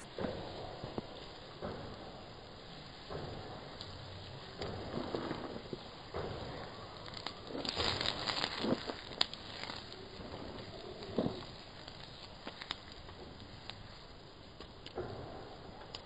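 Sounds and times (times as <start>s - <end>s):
campfire crackling: 0.0s - 16.0s
sharp pops and snaps: 0.0s - 16.0s.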